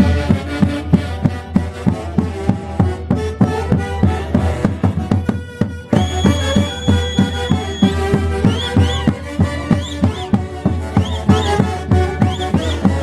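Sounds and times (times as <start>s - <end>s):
festival band music: 0.0s - 13.0s
steady drumbeat: 0.0s - 13.0s.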